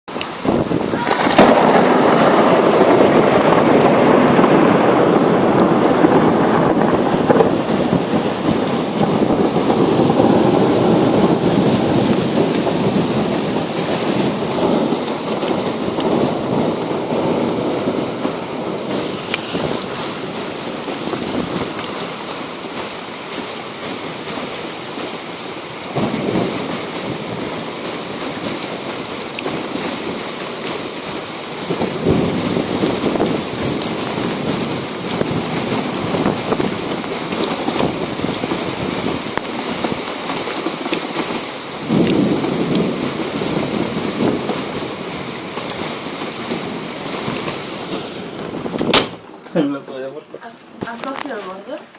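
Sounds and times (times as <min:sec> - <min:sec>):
heavy rain: 0:00.0 - 0:51.9
rolling thunder: 0:00.3 - 0:22.3, 0:25.8 - 0:49.3.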